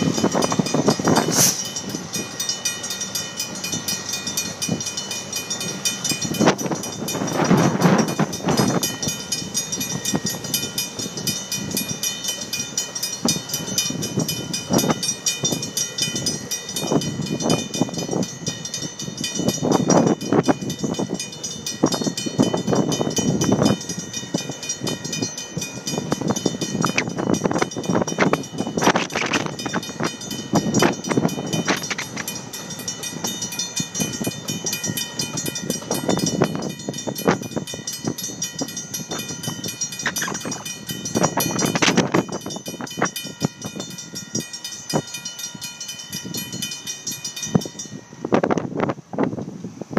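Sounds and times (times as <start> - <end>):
crossing bell ringing: 0.0 - 49.4.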